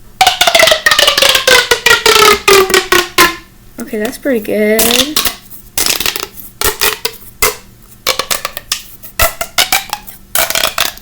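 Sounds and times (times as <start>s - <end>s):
plastic tube crackling clicks: 0.2s - 3.5s, 4.8s - 11.0s.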